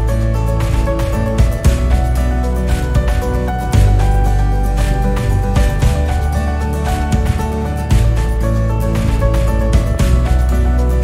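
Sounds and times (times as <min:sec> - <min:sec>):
music with strong steady bass: 0:00.0 - 0:11.0.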